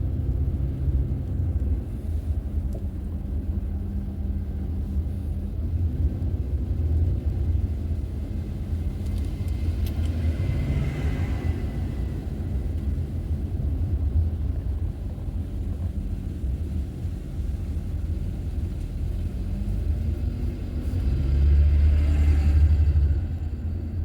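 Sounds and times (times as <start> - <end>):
car road and engine rumble: 0.0 - 24.0.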